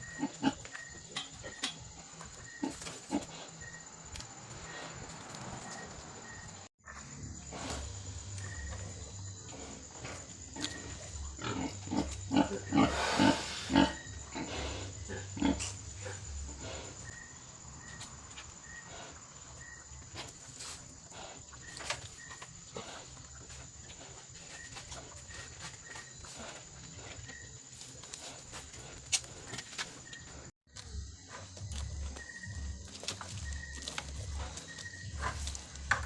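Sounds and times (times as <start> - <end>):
pigs grunting: 0.0 - 30.5, 31.2 - 36.0.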